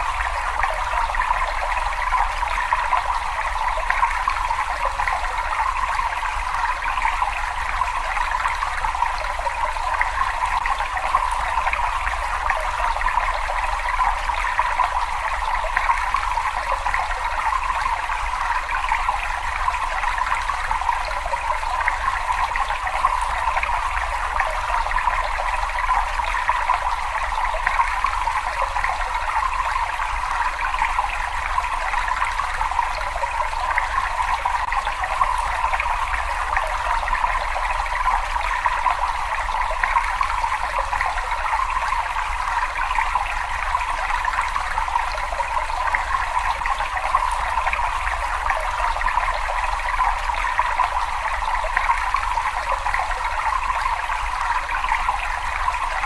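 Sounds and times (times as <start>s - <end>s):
water running in a cave: 0.0s - 56.0s.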